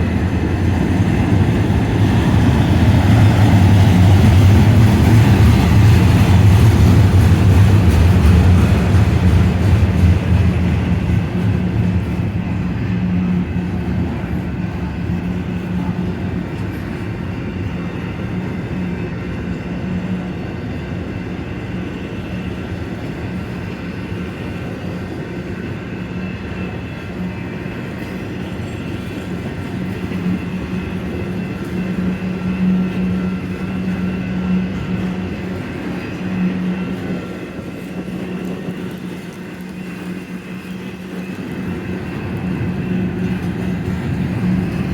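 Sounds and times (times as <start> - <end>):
freight train wheels on track: 0.0 - 44.9.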